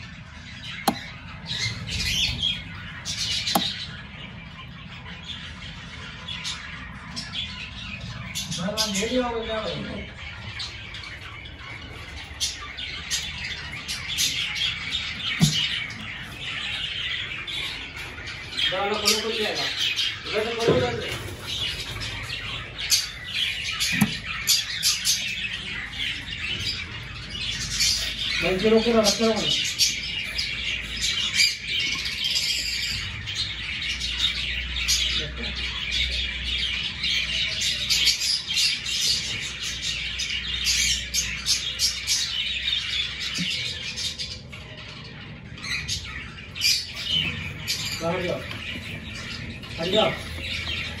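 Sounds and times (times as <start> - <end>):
cockatiels chirping and squawking: 0.0 - 51.0.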